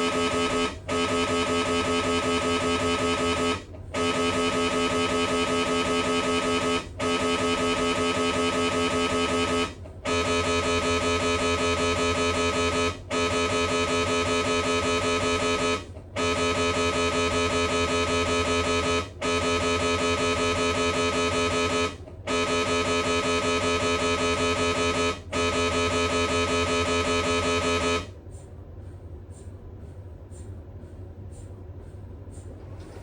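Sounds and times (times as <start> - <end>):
mri scanner buzzing pulsing tone: 0.0 - 33.0.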